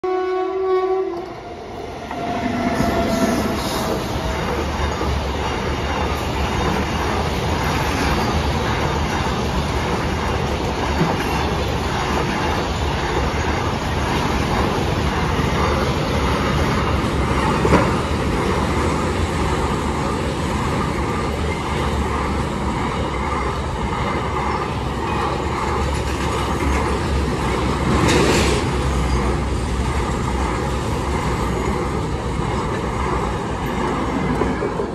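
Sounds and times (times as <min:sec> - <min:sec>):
train wheels rushing on rails: 0:00.1 - 0:34.9.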